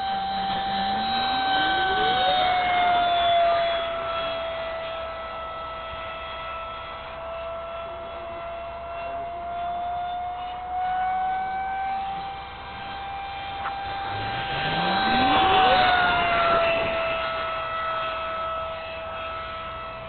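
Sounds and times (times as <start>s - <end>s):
electric ducted fan whine: 0.0s - 20.0s.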